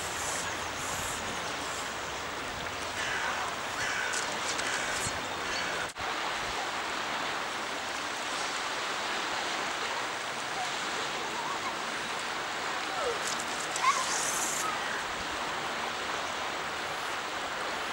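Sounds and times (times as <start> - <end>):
river water rushing: 0.0 - 17.9.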